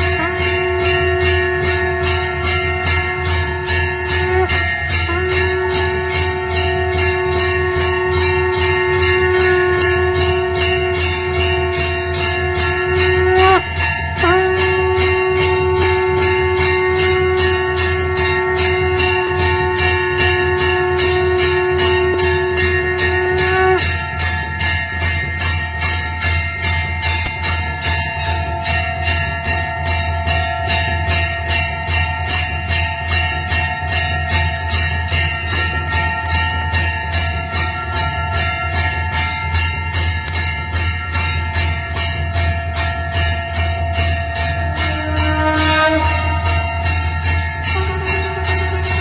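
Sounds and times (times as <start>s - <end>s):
steady held tone: 0.0s - 49.0s
temple bell rung rapidly: 0.0s - 49.0s.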